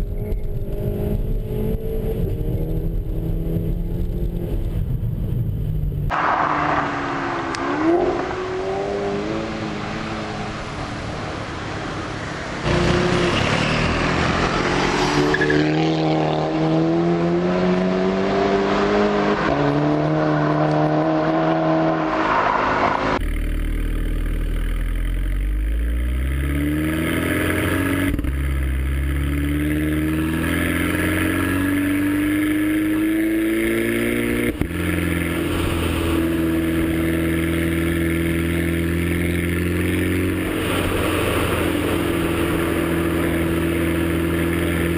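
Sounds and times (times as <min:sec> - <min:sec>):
car engine accelerating hard: 0:06.0 - 0:44.9.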